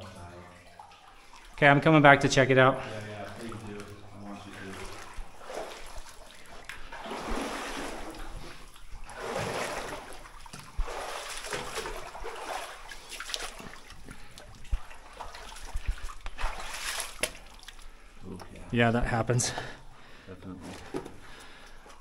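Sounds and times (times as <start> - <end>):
water trickling and splashing: 0.0 - 18.8.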